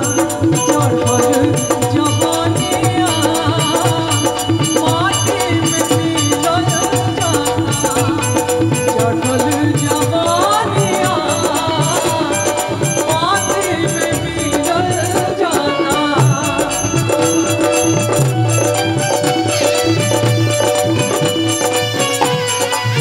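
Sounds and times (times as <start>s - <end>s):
drums: 0.0s - 23.0s
woman singing: 0.0s - 23.0s.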